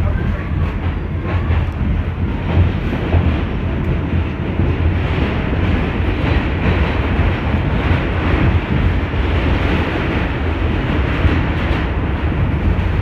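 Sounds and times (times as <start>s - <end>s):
subway car rumbling through tunnel: 0.0s - 13.0s.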